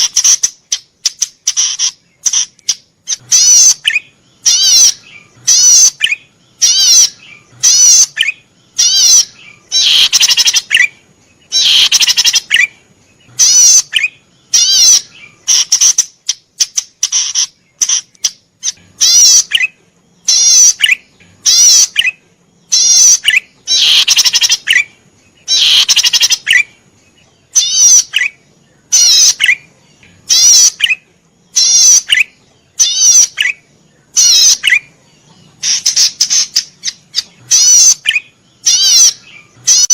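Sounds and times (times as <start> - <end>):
small bird buzzy trilled calls: 0.0 - 39.9.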